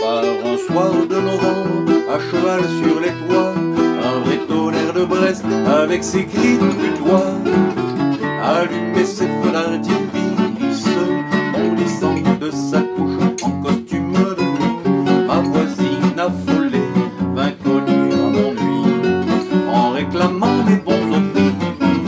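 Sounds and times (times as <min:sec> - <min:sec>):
acoustic guitar picking melody: 0:00.0 - 0:22.0
guitar strumming chords: 0:00.0 - 0:22.0.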